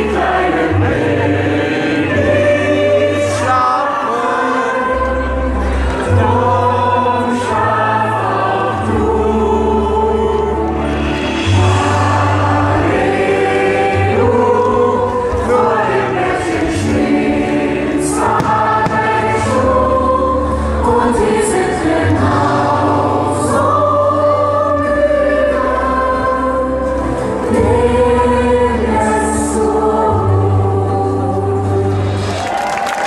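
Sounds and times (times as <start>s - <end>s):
choir singing: 0.0s - 32.4s.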